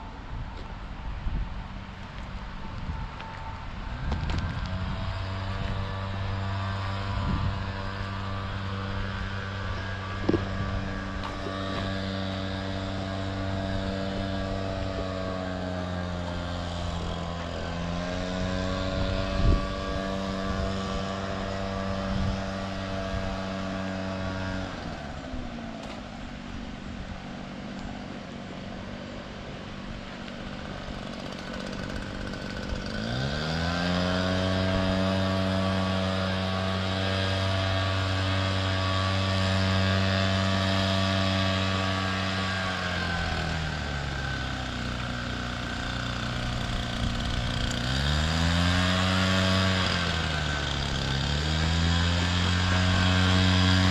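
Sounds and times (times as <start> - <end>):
vehicle engine humming: 0.0 - 53.9.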